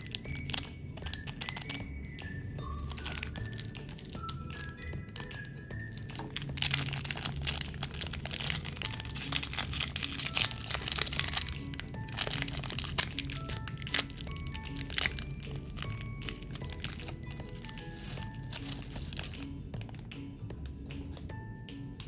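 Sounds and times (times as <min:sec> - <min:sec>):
plastic wrappers crinkling: 0:00.0 - 0:20.1
soft background music: 0:00.0 - 0:22.0.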